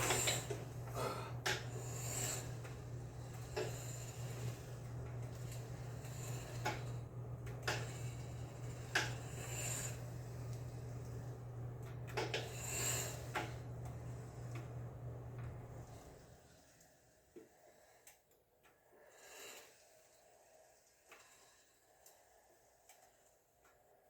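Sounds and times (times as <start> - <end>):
wheelchair motors humming: 0.0 - 24.0.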